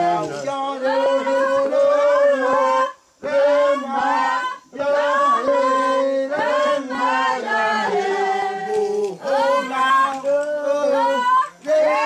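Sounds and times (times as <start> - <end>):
group chanting: 0.0 - 12.0.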